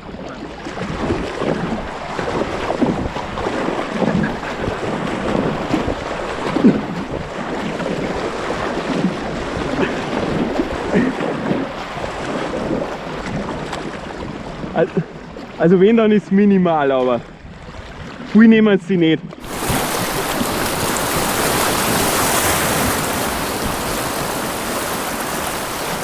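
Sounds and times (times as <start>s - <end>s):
wind noise on microphone: 0.0s - 16.1s, 17.2s - 18.6s, 19.3s - 26.0s
paddle water splashing: 0.0s - 18.5s, 19.2s - 26.0s.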